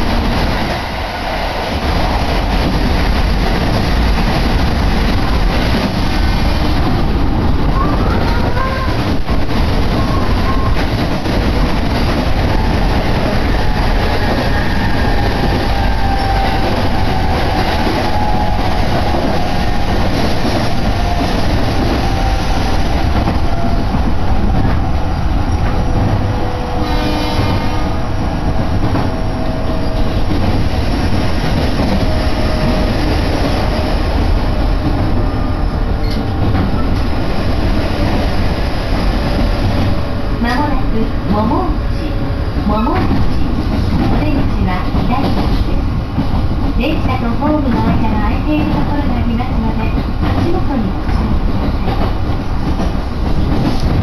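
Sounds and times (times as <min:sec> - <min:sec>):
electric train rumbling inside carriage: 0:00.0 - 0:54.0.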